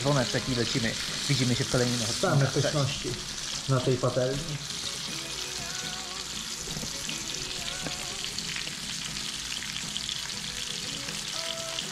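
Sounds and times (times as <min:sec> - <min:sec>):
fish sizzling in hot oil: 0:00.0 - 0:11.9.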